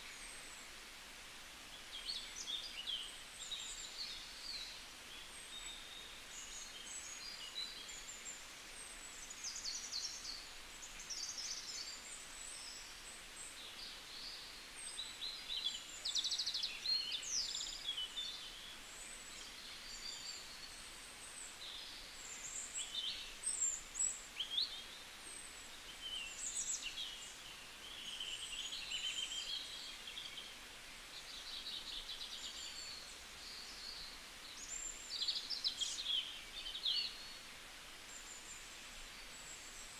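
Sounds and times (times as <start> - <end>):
faint hiss: 0.0 - 39.9
small birds chirping: 1.7 - 39.9.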